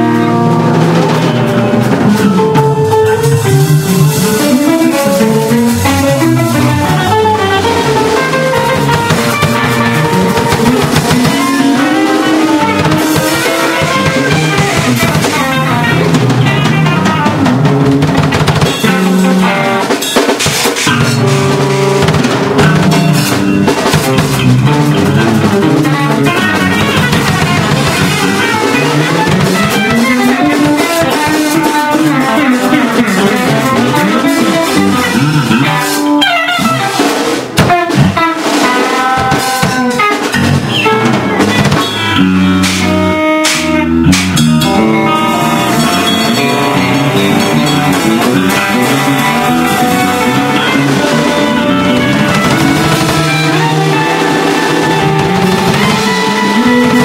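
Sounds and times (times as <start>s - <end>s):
bass: 0.0s - 57.0s
drum kit: 0.0s - 57.0s
electric guitar: 0.0s - 57.0s.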